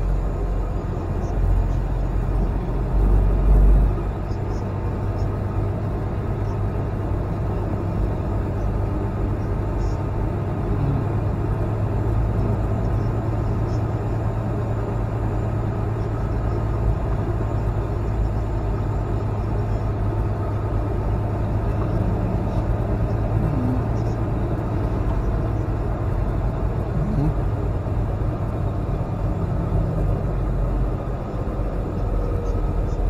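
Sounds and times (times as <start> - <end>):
road noise: 0.0 - 33.0
truck engine drone: 0.0 - 33.0.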